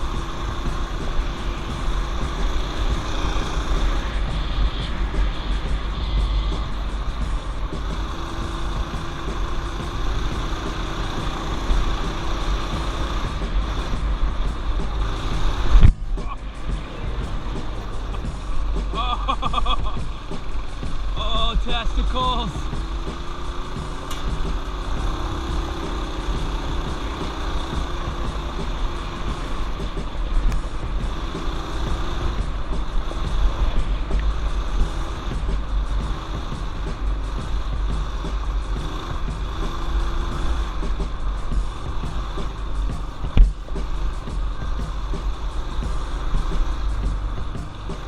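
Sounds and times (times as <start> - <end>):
small motorbike engine running: 0.0 - 48.0
wind rumbling on microphone: 0.0 - 48.0.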